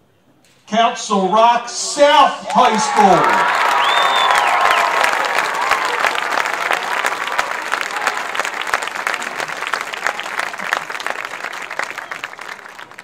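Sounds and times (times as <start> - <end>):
crowd cheering: 1.7 - 13.0
crowd applauding: 2.0 - 13.0.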